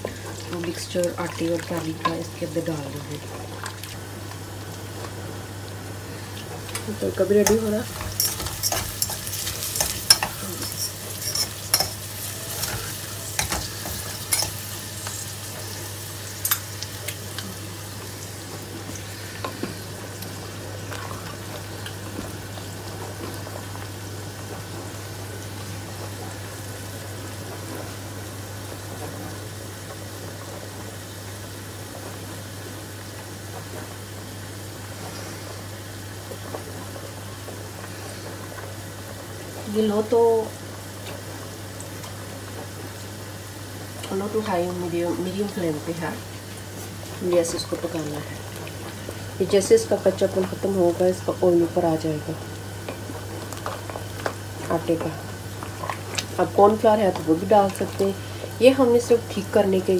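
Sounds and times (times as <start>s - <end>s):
food sizzling: 0.0s - 59.9s.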